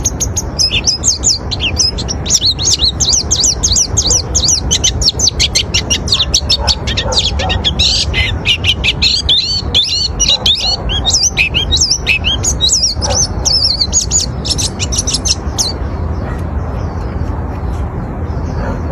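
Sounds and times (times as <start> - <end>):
bird twittering song: 0.0 - 18.9.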